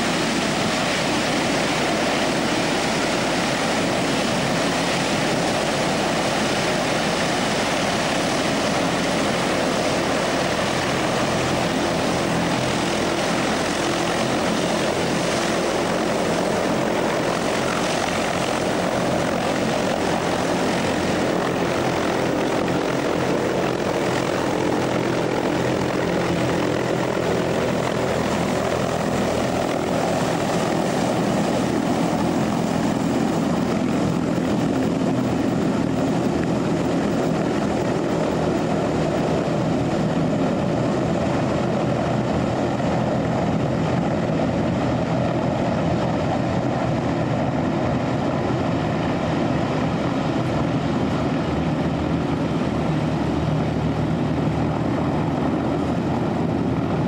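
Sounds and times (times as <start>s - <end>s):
hovercraft propeller and turbine roar: 0.0s - 57.0s.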